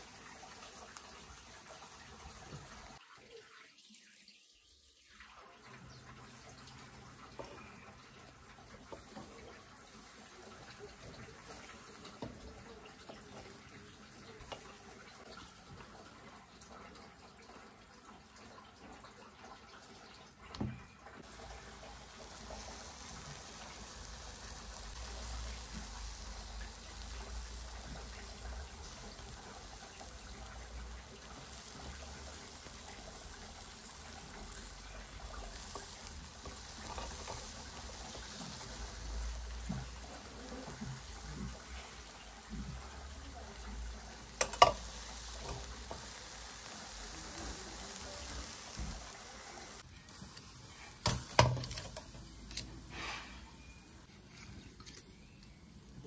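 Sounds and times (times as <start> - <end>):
meat sizzling over charcoal: 0.0 - 3.0, 5.7 - 17.7, 20.6 - 54.2.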